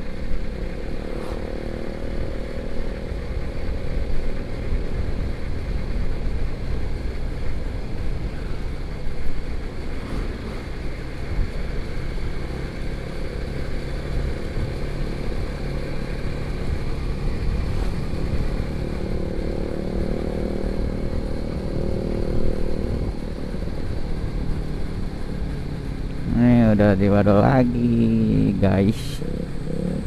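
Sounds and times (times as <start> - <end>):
motorcycle engine running: 0.0 - 30.0
rushing wind and road noise: 0.0 - 30.0.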